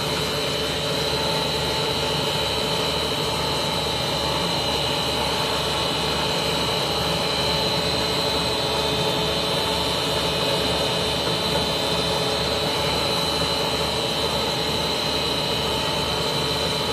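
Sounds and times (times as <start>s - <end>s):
high steady whine: 0.0s - 16.9s.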